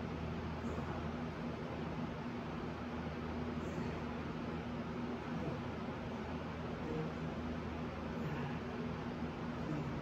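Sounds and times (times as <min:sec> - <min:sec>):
air-handling equipment hum: 0:00.0 - 0:10.0.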